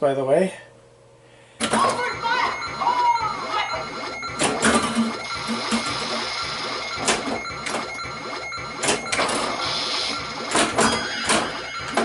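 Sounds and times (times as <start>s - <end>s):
pinball mechanical clacks: 1.6s - 12.0s
steady high electronic tone: 1.7s - 12.0s.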